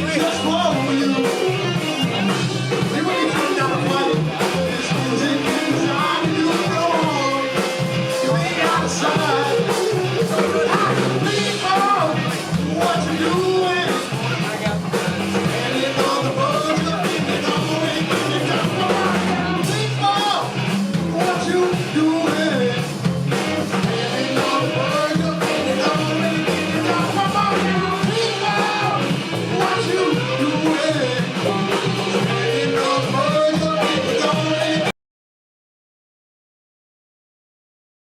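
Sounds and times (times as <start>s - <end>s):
person singing: 0.0s - 23.1s, 23.7s - 35.0s
live rock band playing: 0.0s - 34.9s.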